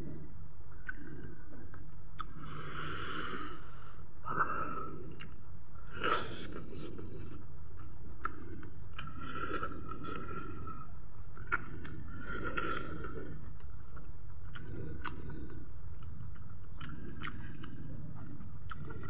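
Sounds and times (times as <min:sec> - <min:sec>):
man chewing food: 0:00.0 - 0:19.0
mouth clicks and smacks: 0:00.8 - 0:02.8, 0:05.1 - 0:19.0.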